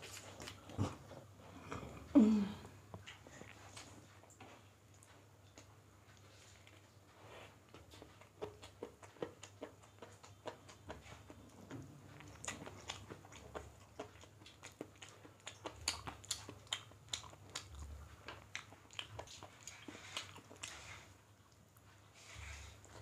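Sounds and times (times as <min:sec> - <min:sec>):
chewing and mouth smacks: 0:02.9 - 0:07.0, 0:07.6 - 0:23.0.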